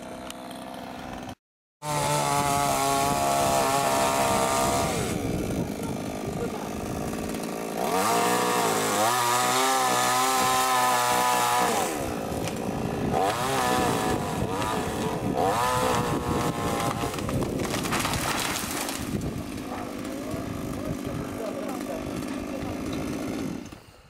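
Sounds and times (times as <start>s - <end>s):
chainsaw revving and cutting: 0.0s - 23.9s.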